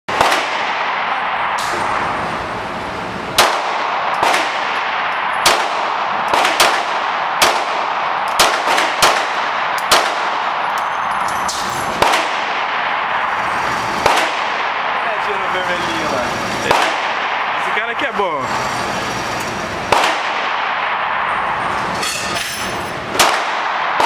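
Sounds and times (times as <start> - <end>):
gunshots with ringing tail: 0.1 - 18.1, 19.6 - 22.0, 23.1 - 24.0.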